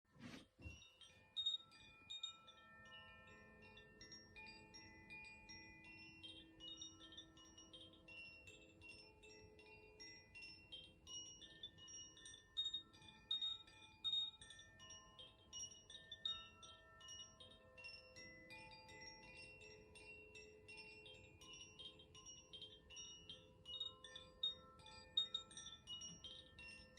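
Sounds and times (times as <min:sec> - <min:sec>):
wind chime ringing softly: 0:00.2 - 0:26.9.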